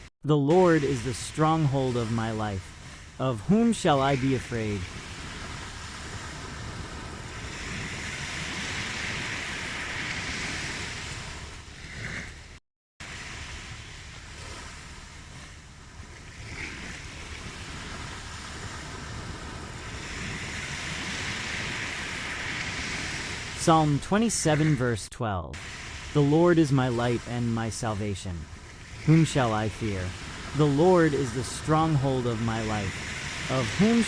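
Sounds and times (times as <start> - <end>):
ocean waves washing ashore: 0.0 - 34.0.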